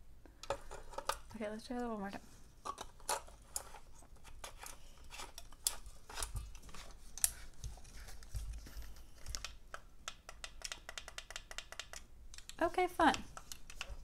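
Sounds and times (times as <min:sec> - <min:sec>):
plastic clicks and scrapes: 0:00.4 - 0:01.4, 0:02.6 - 0:14.0.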